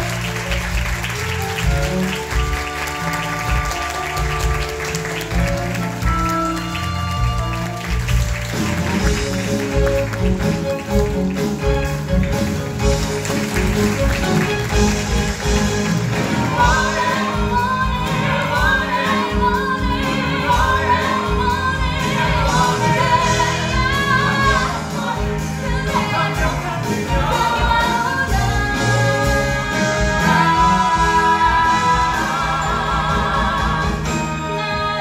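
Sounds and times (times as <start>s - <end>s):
instrumental accompaniment with beat: 0.0s - 35.0s.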